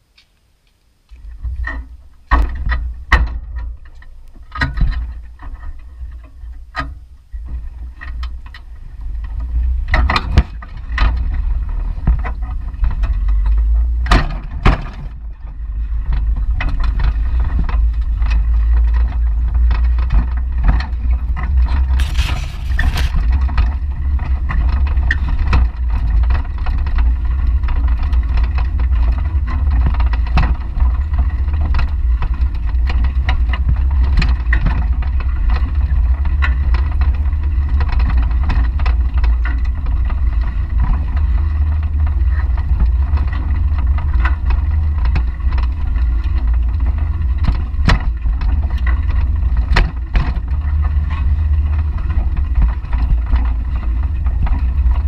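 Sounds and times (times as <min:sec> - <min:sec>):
wind and road rumble: 0:01.0 - 0:55.0.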